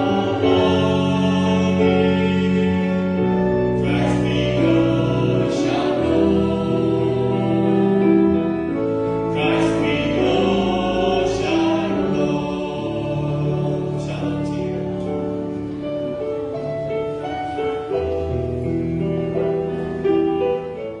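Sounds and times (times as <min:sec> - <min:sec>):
sustained held chords: 0:00.0 - 0:21.0
voices singing church music: 0:00.0 - 0:21.0.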